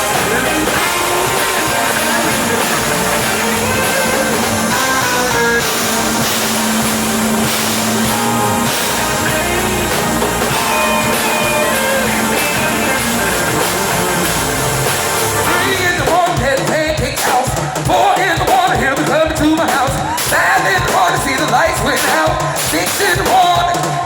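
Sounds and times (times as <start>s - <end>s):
band playing rock music: 0.0s - 24.0s.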